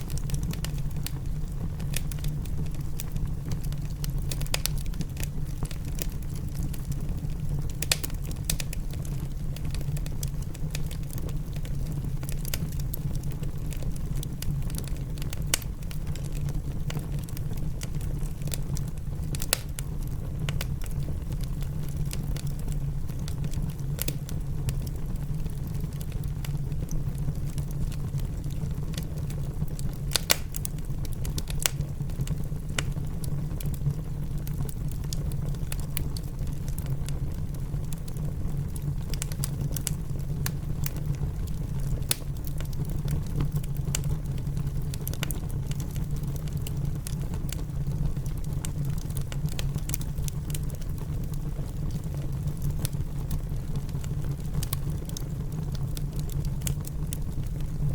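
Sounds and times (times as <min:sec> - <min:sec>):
low rumble of rain: 0:00.0 - 0:57.9
wood fire crackling: 0:00.0 - 0:57.9.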